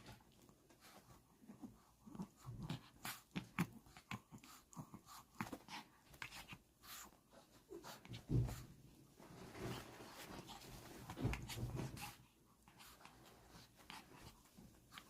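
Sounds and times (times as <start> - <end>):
small dog play-fighting: 0.0 - 8.8, 9.4 - 15.0.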